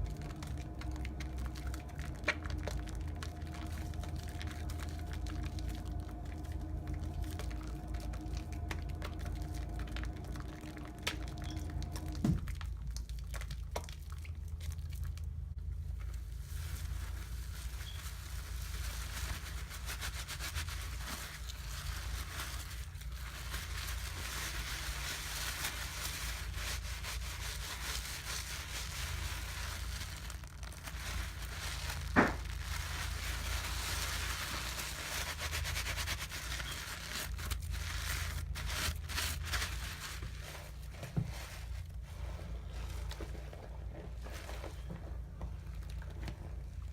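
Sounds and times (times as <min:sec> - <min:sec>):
soapy foam crackling and fizzing: 0:00.0 - 0:15.5, 0:16.2 - 0:43.4
low steady hum: 0:00.0 - 0:46.9.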